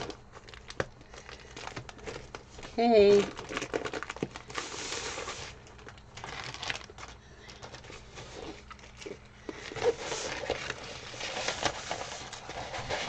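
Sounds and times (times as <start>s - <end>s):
paper and plastic film crinkling: 0.0s - 13.0s.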